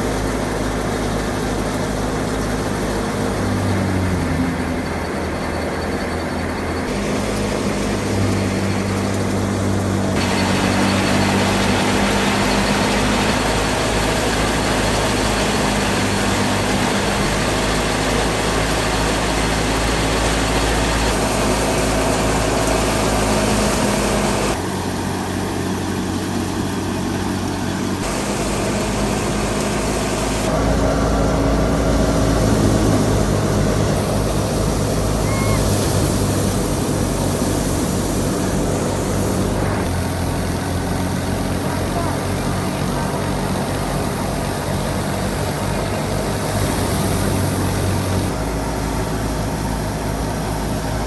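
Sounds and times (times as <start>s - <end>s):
thresher rushing noise: 0.0s - 51.0s
tractor diesel engine droning: 0.0s - 51.0s.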